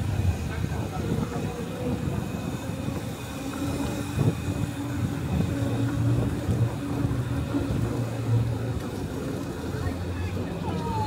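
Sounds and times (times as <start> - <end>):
low motor hum: 0.0 - 11.0
wind and road rumble: 0.0 - 11.0.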